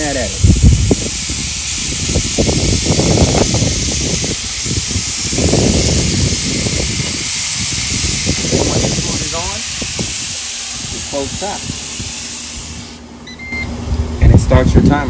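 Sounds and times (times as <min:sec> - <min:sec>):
burger patties sizzling on grill: 0:00.0 - 0:13.0.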